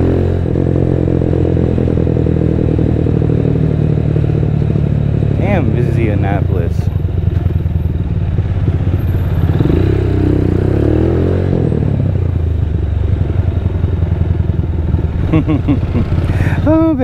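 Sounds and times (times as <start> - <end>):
motorcycle engine in traffic: 0.0 - 17.0.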